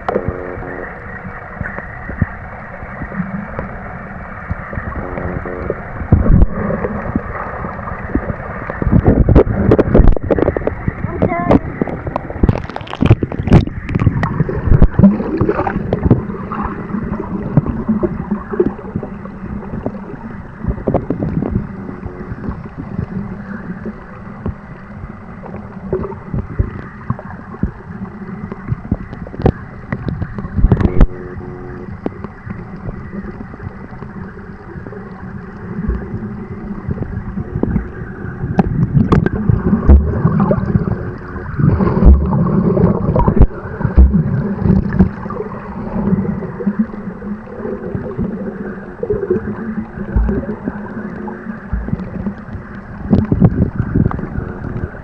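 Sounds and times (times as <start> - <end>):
muffled water sloshing: 0.0 - 55.0.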